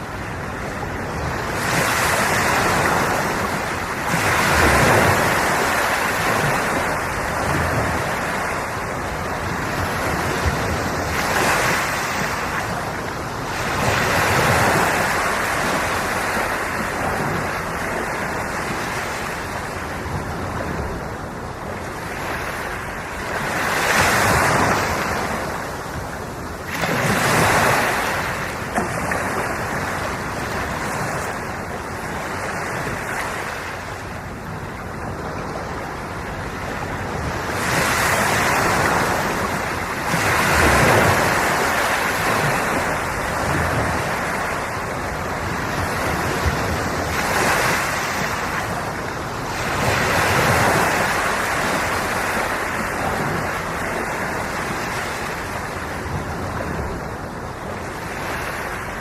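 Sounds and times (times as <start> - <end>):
ocean waves breaking: 0.0 - 59.0
wind on microphone: 0.0 - 59.0.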